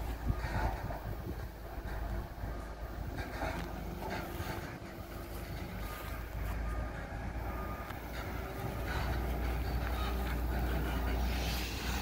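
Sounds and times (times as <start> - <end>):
low diesel engine rumble: 0.0 - 12.0.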